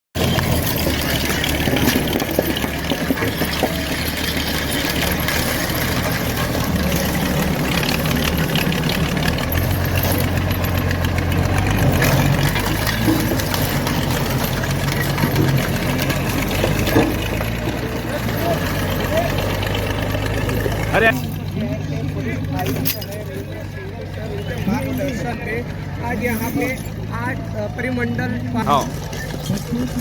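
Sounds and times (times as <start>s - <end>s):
bulldozer diesel engine: 0.1s - 30.0s.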